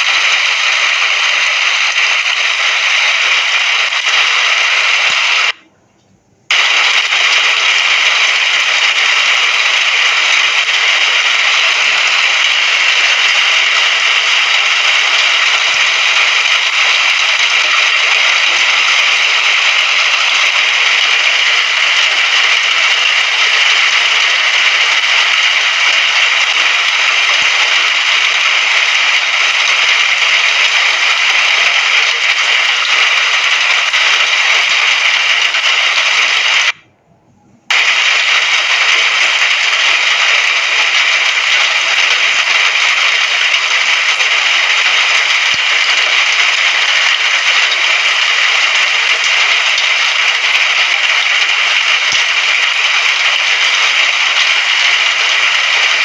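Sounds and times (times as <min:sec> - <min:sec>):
rain falling: 0:00.0 - 0:05.6, 0:06.5 - 0:36.8, 0:37.7 - 0:56.0.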